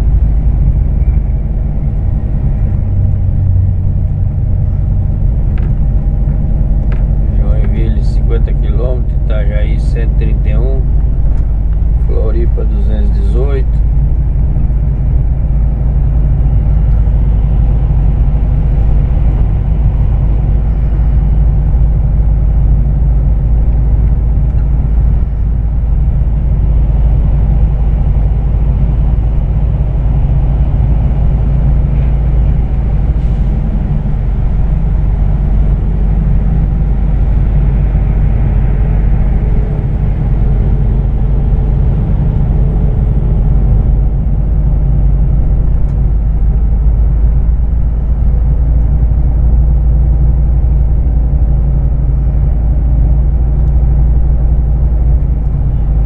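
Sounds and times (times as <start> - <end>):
truck engine rumble from cab: 0.0 - 56.0.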